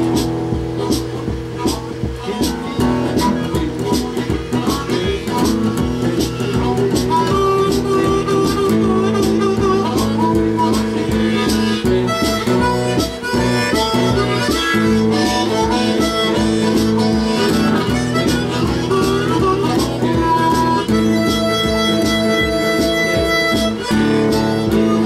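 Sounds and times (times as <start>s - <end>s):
drum machine beat: 0.0s - 25.0s
harmonica lead line: 0.0s - 25.0s
strummed acoustic guitar: 0.0s - 25.0s.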